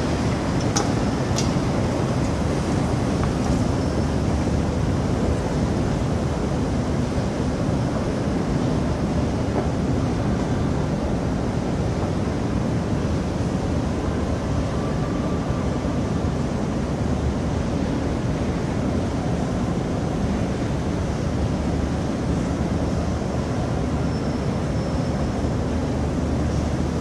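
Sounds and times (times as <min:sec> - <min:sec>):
metro station rumble: 0:00.0 - 0:27.0.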